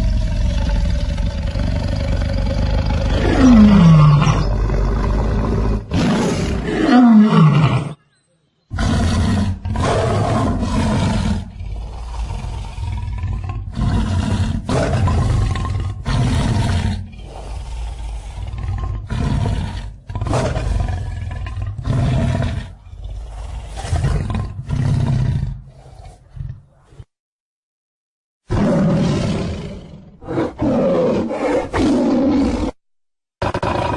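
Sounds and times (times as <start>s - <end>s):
lion growling: 0.0s - 8.0s, 8.7s - 27.1s, 28.5s - 32.8s, 33.4s - 33.9s.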